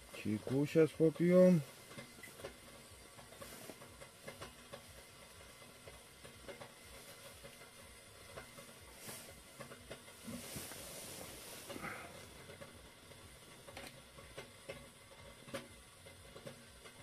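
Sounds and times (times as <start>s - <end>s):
kettle boiling hiss: 0.0s - 17.0s.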